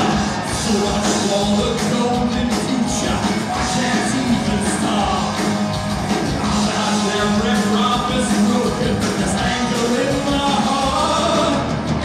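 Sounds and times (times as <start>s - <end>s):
person singing and shouting: 0.0s - 5.6s, 6.3s - 11.7s
bass guitar: 0.0s - 12.0s
drums with cymbals: 0.0s - 12.0s
electric guitar: 0.0s - 12.0s.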